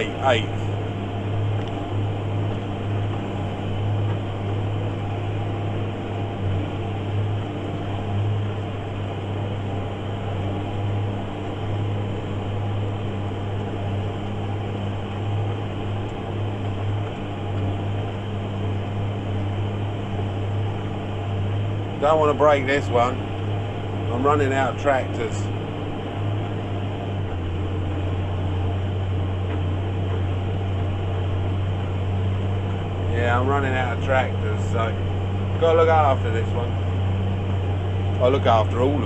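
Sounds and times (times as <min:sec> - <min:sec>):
tractor engine droning: 0:00.0 - 0:39.0.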